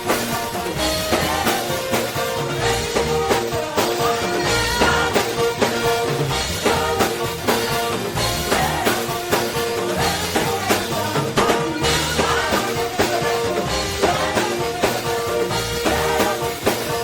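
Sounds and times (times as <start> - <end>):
drum kit beat: 0.0 - 17.0
gospel band music: 0.0 - 17.0.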